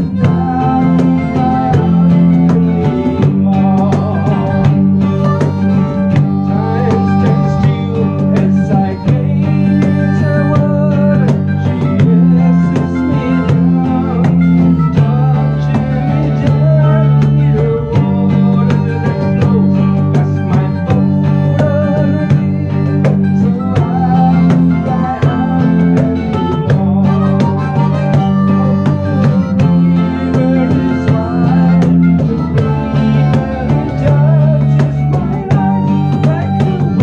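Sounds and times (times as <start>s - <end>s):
plucked strings picking quick notes: 0.0s - 37.0s
sustained low chords: 0.0s - 37.0s.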